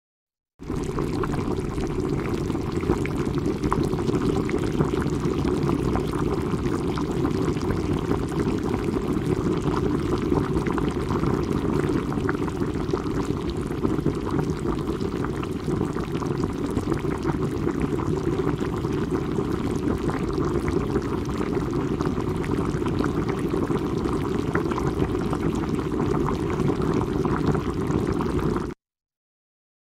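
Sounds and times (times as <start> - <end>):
water boiling: 0.6 - 28.8.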